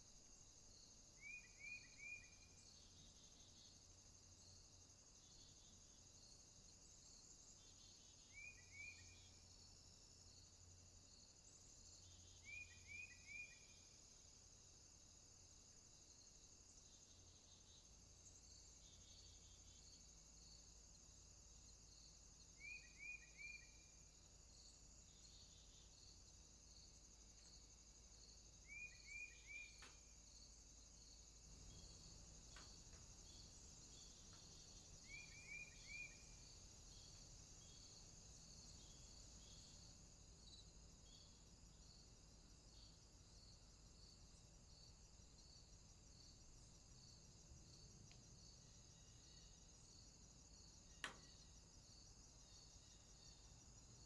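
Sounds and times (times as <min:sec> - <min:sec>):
cricket chirping: 0:00.0 - 0:54.0
insect buzz: 0:00.0 - 0:54.0.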